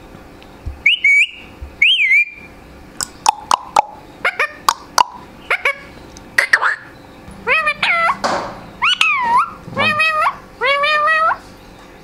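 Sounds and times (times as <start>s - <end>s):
parakeet whistling: 0.8s - 2.6s, 3.2s - 11.5s
parakeet chirping: 0.8s - 11.8s.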